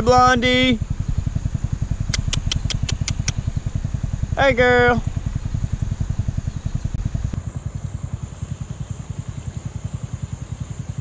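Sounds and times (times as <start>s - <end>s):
farm vehicle engine idling: 0.0s - 11.0s.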